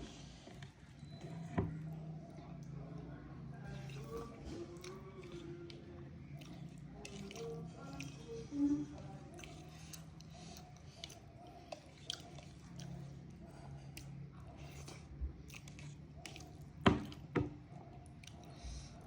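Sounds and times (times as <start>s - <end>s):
person chewing food: 3.6s - 19.0s.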